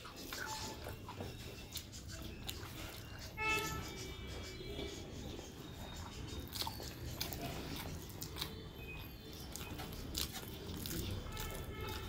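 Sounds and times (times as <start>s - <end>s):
close chewing: 0.0s - 12.0s.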